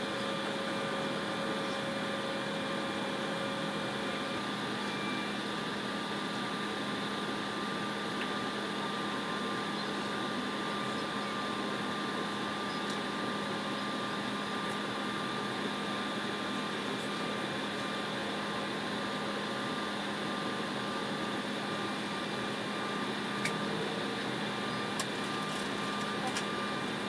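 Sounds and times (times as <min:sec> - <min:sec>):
jet engines idling: 0:00.0 - 0:27.0
thin steady whine: 0:00.0 - 0:27.0.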